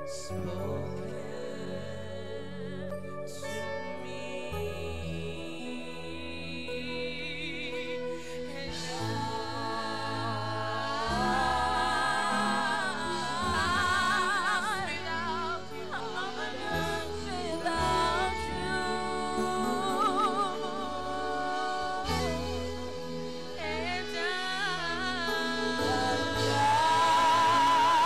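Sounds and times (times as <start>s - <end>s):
keyboard and bass chords: 0.0s - 28.0s
woman singing with vibrato: 0.0s - 28.0s.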